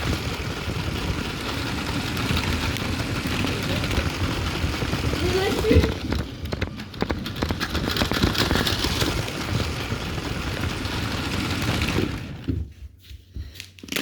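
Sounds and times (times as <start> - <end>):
toy train wheels clicking: 0.0 - 12.5.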